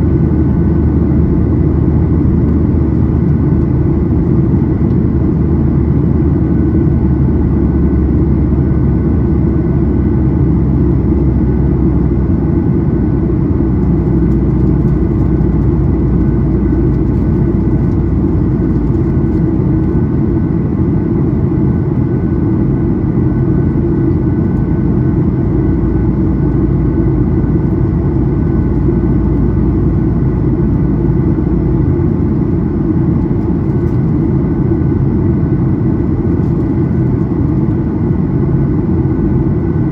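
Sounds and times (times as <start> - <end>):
faint engine whine: 0.0 - 39.9
jet engine drone in cabin: 0.0 - 39.9.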